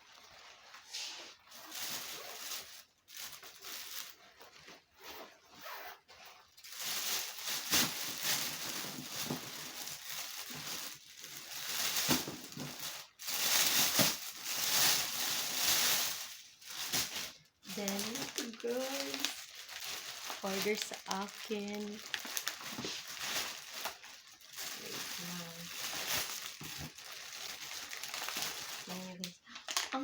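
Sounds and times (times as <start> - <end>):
packaging crinkling and tearing: 1.4 - 4.3, 6.6 - 30.0.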